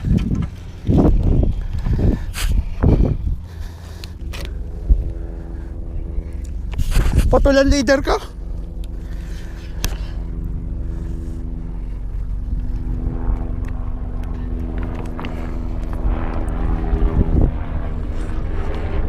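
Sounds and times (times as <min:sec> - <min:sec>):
boat engine humming: 0:00.0 - 0:06.9, 0:07.5 - 0:19.0.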